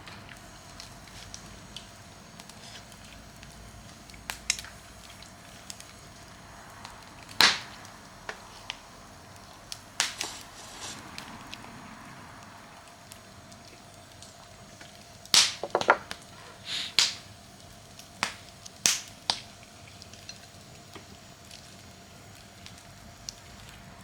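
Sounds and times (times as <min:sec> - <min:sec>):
fire popping and snapping: 0:00.0 - 0:24.0
wood fire crackling: 0:00.0 - 0:24.0.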